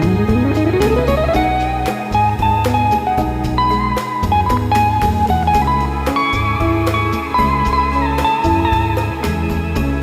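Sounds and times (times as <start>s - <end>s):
guitar-led instrumental music: 0.0s - 10.0s.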